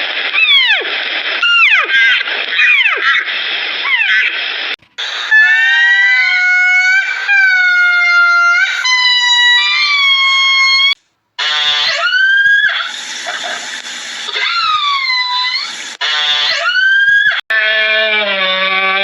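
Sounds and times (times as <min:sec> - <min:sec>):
animal high-pitched calls: 0:00.4 - 0:04.4, 0:05.0 - 0:19.0.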